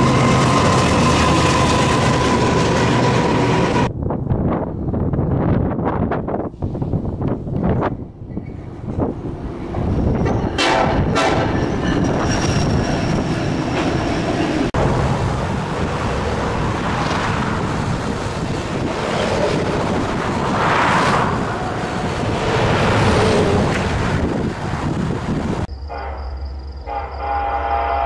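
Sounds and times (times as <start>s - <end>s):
train wheels on rails: 0.0s - 3.9s, 6.5s - 25.7s
diesel freight locomotives passing: 0.0s - 28.0s
distant freight train passing: 0.0s - 28.0s.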